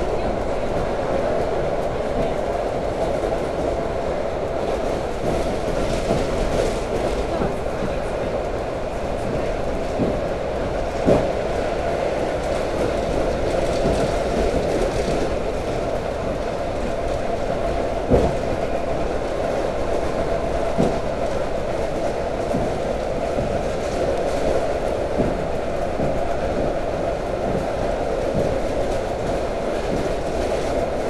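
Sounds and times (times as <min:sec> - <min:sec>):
continuous train hum: 0:00.0 - 0:31.0
train wheels rumbling on rail: 0:00.0 - 0:31.0.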